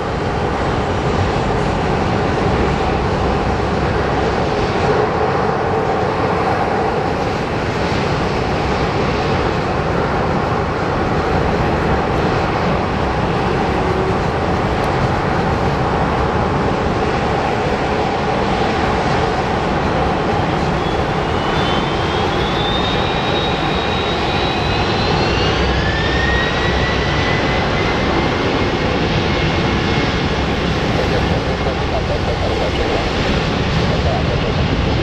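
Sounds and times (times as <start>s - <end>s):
jet engine whine: 0.0s - 35.0s
jet engines roaring: 0.0s - 35.0s.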